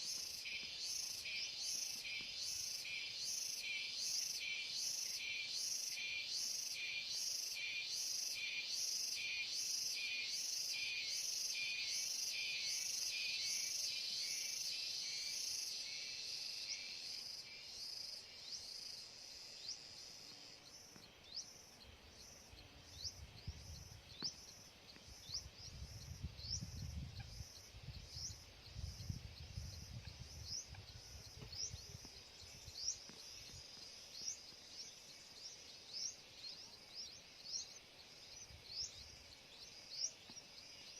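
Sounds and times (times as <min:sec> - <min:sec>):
insects buzzing in pulsing chorus: 0:00.0 - 0:40.9.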